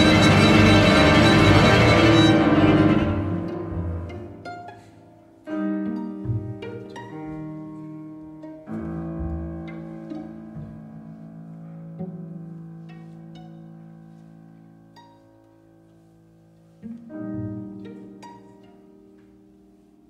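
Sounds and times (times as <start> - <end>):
string quintet and piano playing: 0.0 - 20.0.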